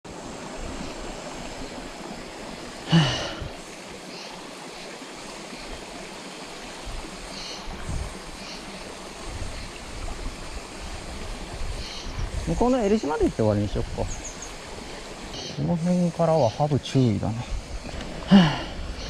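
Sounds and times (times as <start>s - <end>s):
stream flowing over rocks: 0.1s - 19.0s.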